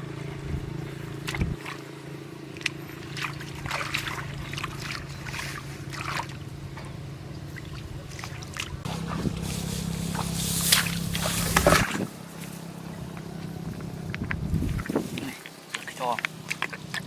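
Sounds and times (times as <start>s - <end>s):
low motor hum: 0.0s - 17.0s
splashing in shallow water: 1.1s - 17.0s.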